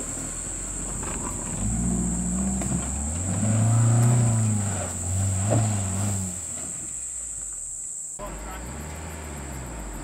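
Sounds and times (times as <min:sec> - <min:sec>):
car engine revving: 0:00.0 - 0:06.9, 0:08.2 - 0:10.0.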